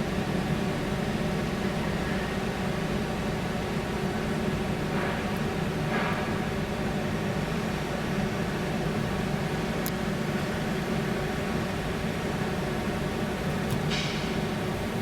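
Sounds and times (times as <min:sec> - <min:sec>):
low machinery hum and rumble: 0:00.0 - 0:15.0.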